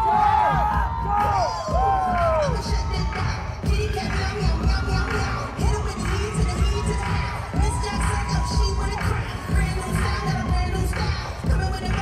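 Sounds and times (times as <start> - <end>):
crowd cheering: 0.0 - 12.0
heavy bass beat: 0.0 - 12.0
hip-hop dance track: 0.0 - 12.0.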